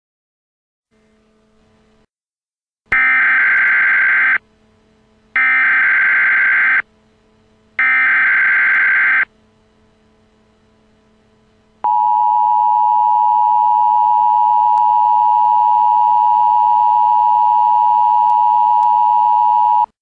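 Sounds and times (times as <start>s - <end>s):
faint hum: 2.9s - 19.9s.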